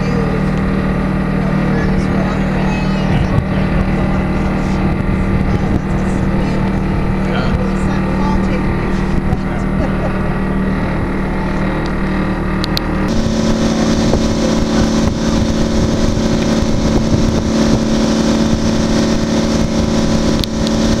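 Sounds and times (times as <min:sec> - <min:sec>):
boat engine humming: 0:00.0 - 0:21.0
rush of wind and water: 0:00.0 - 0:21.0.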